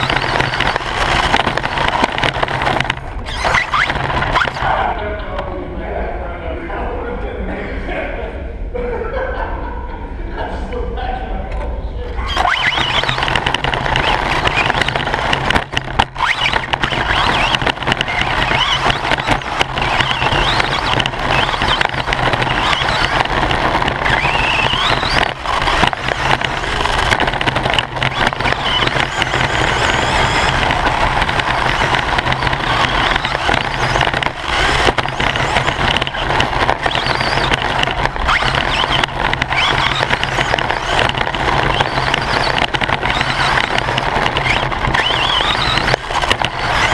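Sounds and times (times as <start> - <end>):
rc car motor whining: 0.0 - 5.0, 12.1 - 46.9
rattle and tyre noise: 0.0 - 6.1, 12.0 - 46.9.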